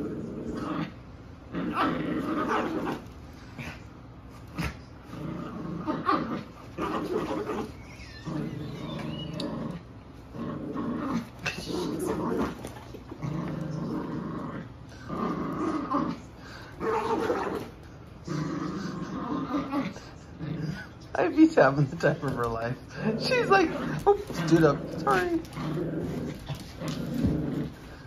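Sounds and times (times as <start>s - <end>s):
puppies growling in play: 0.0s - 28.0s.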